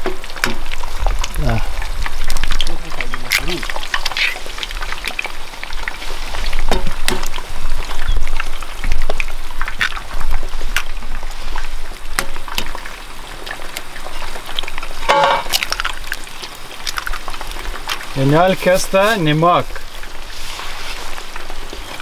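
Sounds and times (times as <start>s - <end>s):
eggs sizzling in hot oil: 0.0s - 22.0s.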